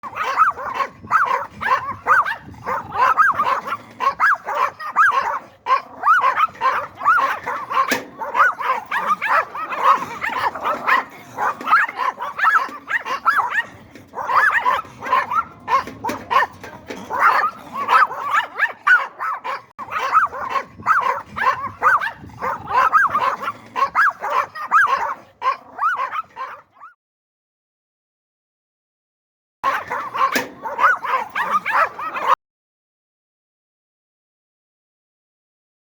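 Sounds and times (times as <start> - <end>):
small dog yapping: 0.1 - 26.9, 29.7 - 32.4.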